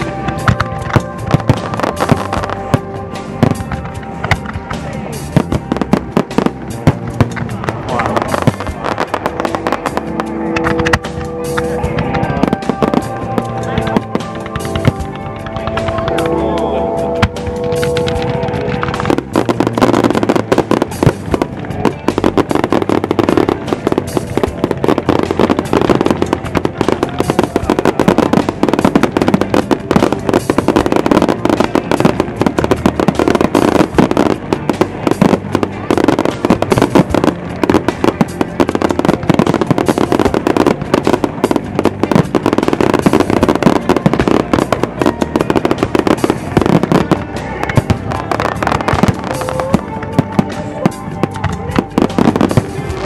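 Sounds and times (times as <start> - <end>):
fireworks bursting and crackling: 0.0 - 53.0
music playing: 0.0 - 53.0.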